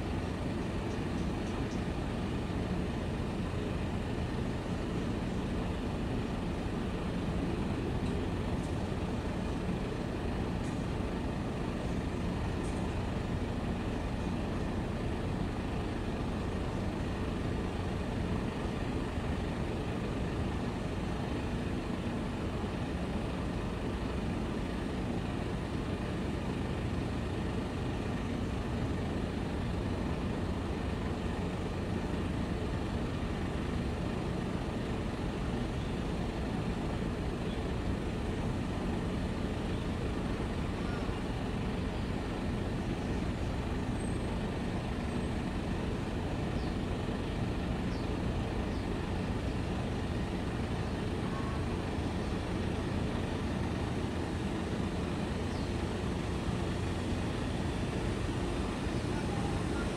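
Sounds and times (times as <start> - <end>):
diesel engines rumbling: 0.0 - 59.9.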